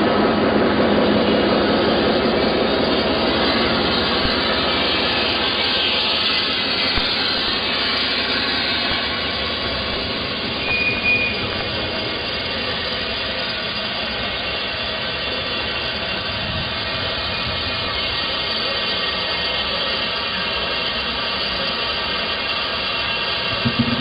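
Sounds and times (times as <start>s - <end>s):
diesel railcar running: 0.0s - 24.0s
high squeal: 0.0s - 24.0s.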